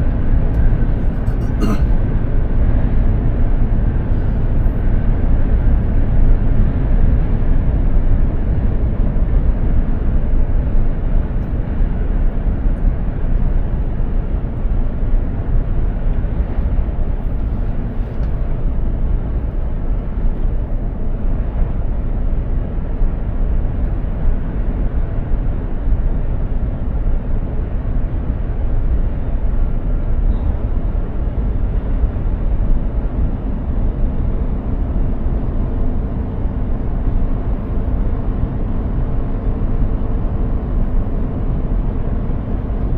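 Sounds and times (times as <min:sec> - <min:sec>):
truck diesel engine drone: 0:00.0 - 0:42.9.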